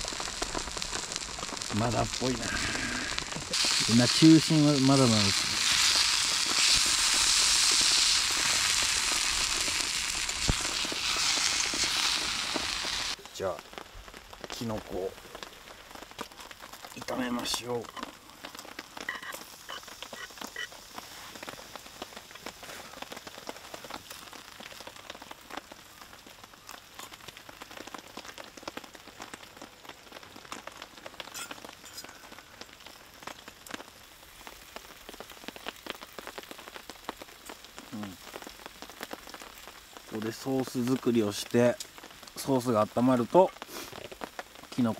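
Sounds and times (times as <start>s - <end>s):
rain pattering: 0.0s - 44.9s.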